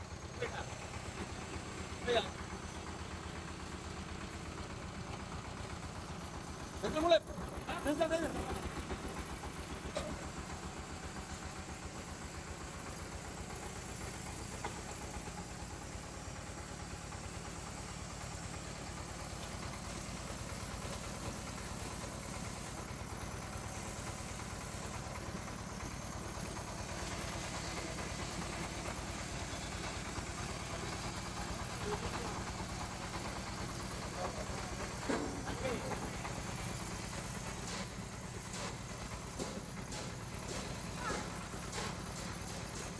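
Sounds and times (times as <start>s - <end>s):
extruder machine running: 4.4s - 42.9s.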